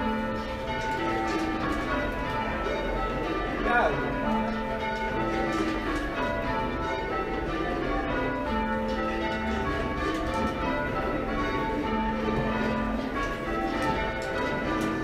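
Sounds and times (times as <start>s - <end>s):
church bells change ringing: 0.0s - 15.0s.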